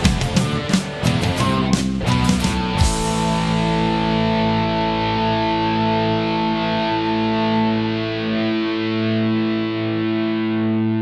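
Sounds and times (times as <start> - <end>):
bass guitar: 0.0 - 11.0
distorted electric guitar: 0.0 - 11.0.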